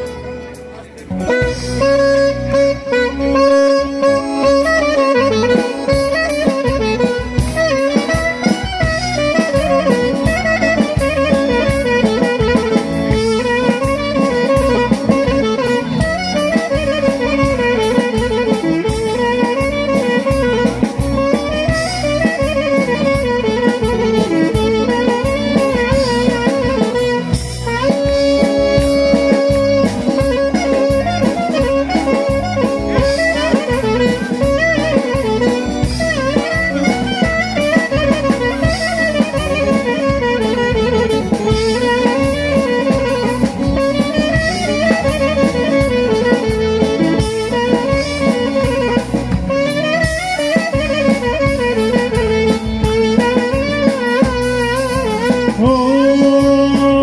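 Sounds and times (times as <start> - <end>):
folk dance instrumental melody: 0.0 - 57.0
steady drum beat: 0.0 - 57.0.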